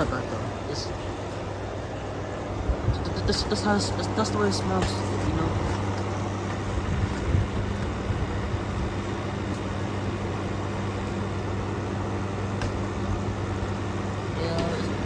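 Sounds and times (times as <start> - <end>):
compressor hum: 0.0 - 15.0
fan airflow noise: 0.0 - 15.0.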